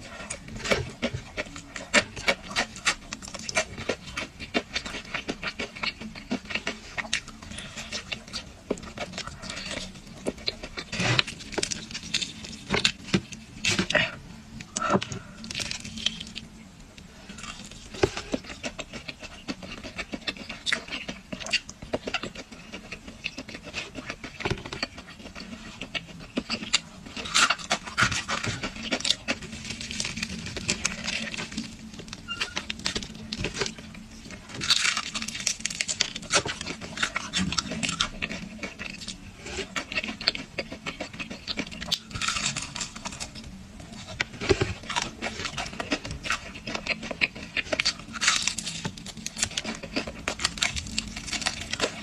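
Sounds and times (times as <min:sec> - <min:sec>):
crunchy chewing: 0:00.0 - 0:52.0.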